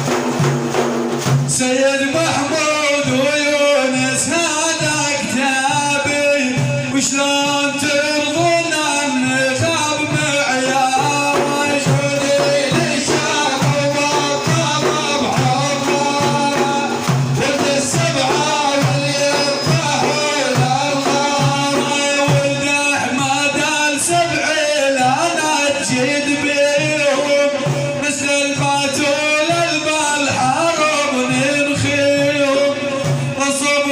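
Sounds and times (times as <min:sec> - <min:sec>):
music with steady beat: 0:00.0 - 0:33.9.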